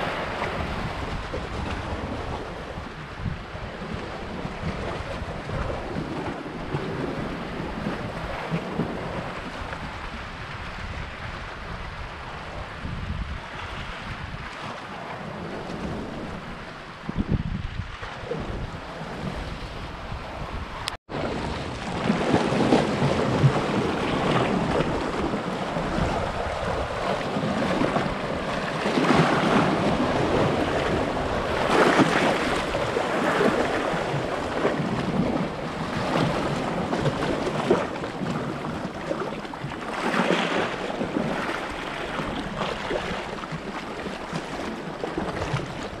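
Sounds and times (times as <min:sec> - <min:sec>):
sea waves breaking over rocks: 0:00.0 - 0:46.0
wind on microphone: 0:00.0 - 0:46.0.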